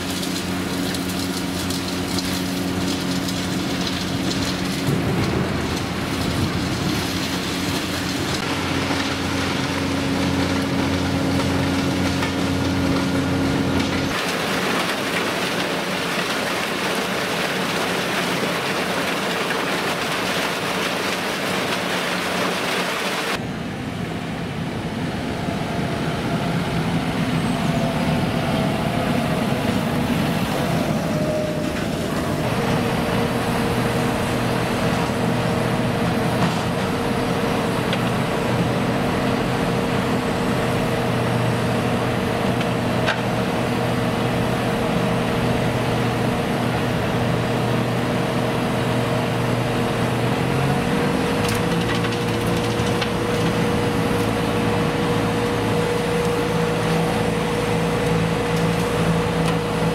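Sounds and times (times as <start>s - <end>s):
wood chipper rushing noise: 0.0s - 23.4s, 25.0s - 59.9s
diesel engine hum: 0.0s - 59.9s.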